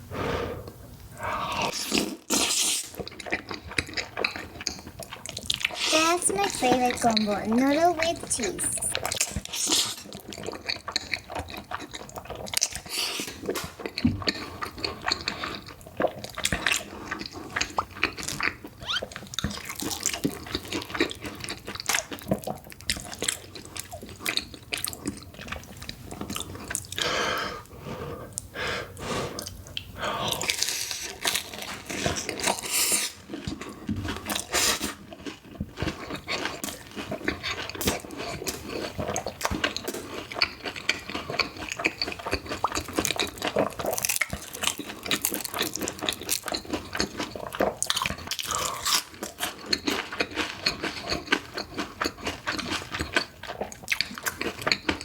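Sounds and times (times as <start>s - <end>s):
wet chewing and mouth smacks: 1.7s - 6.6s, 8.9s - 27.1s, 29.4s - 55.0s.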